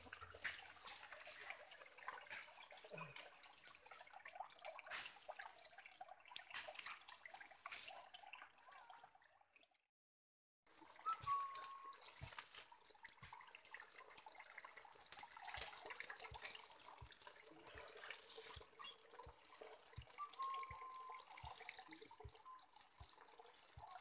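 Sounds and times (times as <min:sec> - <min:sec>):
water trickling and splashing: 0:00.0 - 0:09.8, 0:10.7 - 0:24.0.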